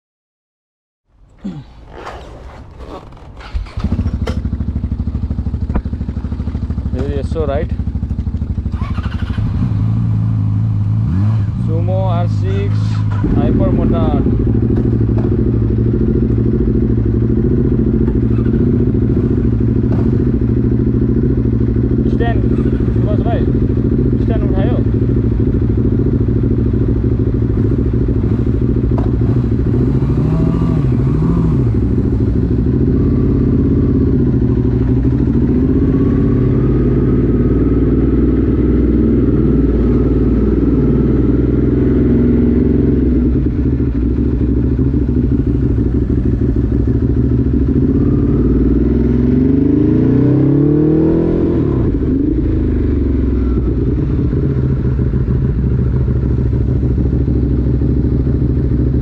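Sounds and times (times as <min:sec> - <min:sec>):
motorcycle engine revving: 0:01.3 - 0:59.0.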